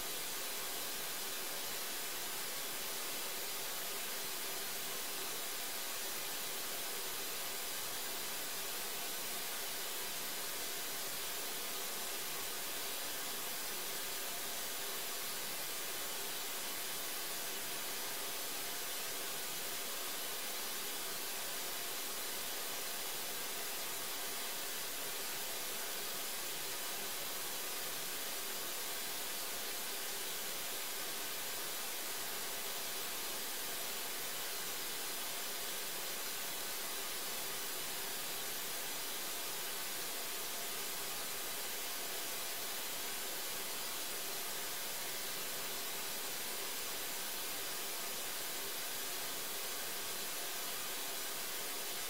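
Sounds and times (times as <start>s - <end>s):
steady static hiss: 0.0s - 52.0s.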